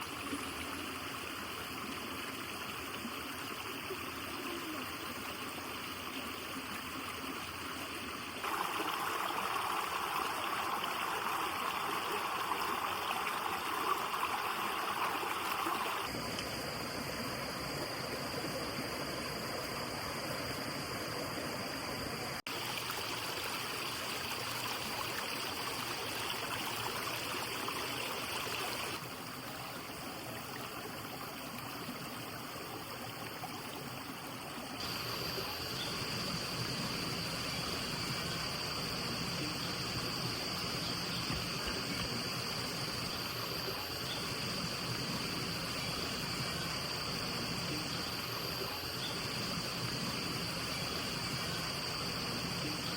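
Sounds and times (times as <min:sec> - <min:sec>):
stream flowing over rocks: 0:00.0 - 0:52.9.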